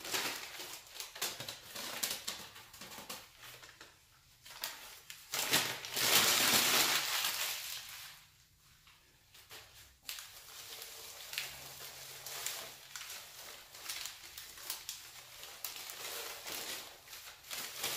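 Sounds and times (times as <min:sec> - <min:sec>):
newspaper rustling: 0:00.0 - 0:17.9
paper crumpling and crinkling: 0:00.0 - 0:17.9.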